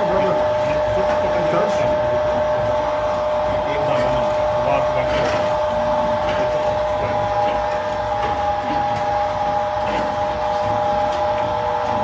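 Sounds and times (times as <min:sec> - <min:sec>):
machine motor whine: 0:00.0 - 0:12.0.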